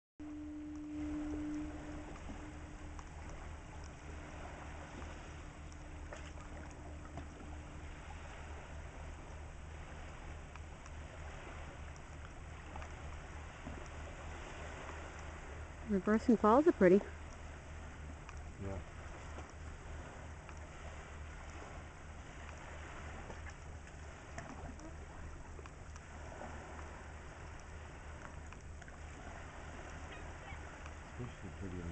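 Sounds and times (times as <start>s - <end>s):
faint ticks: 0.2s - 16.4s, 17.0s - 31.9s
faint steady hum: 0.2s - 31.9s
low uneven rumble: 0.2s - 31.9s
water swirling: 0.2s - 31.9s.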